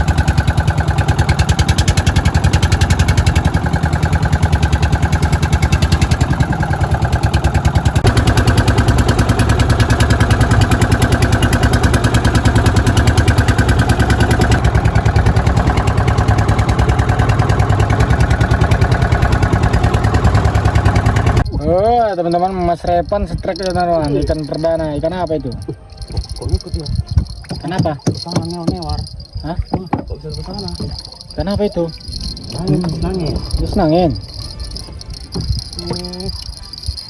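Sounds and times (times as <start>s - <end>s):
small petrol engine putter: 0.0s - 21.6s, 22.2s - 37.0s.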